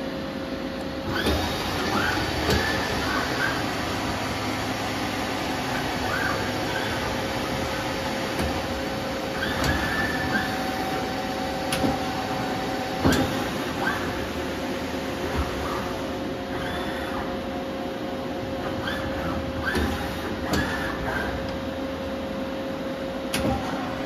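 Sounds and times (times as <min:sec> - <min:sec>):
machine hum with whines: 0:00.0 - 0:24.0.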